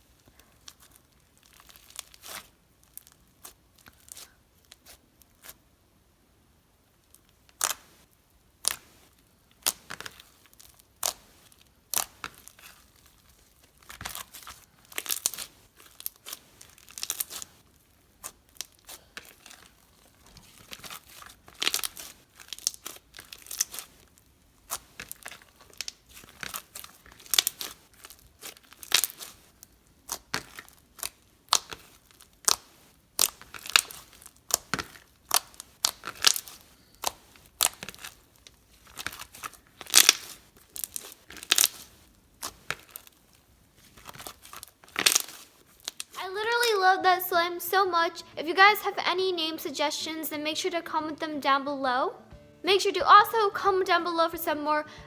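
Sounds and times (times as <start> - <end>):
hands squishing crunchy slime: 0.0 - 5.8, 7.0 - 47.0
slime popping and crackling: 0.4 - 5.7, 6.9 - 46.9.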